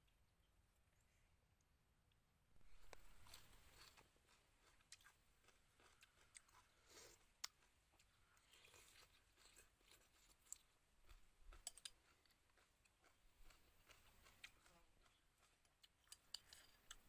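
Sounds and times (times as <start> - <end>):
person chewing: 2.6 - 17.0.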